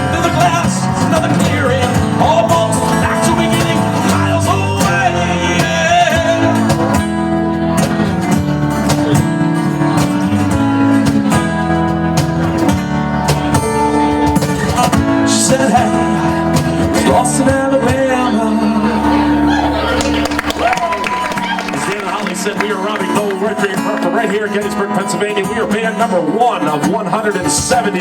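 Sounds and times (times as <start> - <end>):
live band playing: 0.0 - 28.0
strummed guitar: 0.0 - 28.0.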